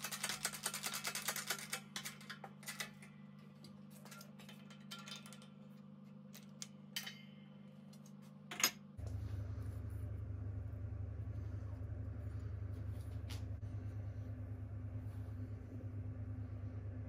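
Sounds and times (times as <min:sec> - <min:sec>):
steady low hum: 0:00.2 - 0:17.0.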